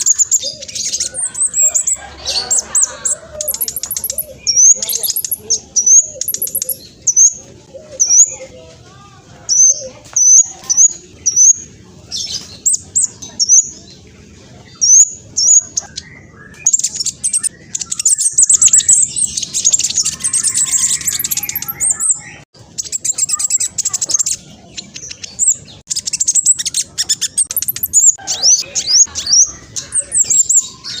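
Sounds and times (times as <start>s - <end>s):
sunbird singing trills: 0.0s - 8.5s, 14.7s - 31.0s.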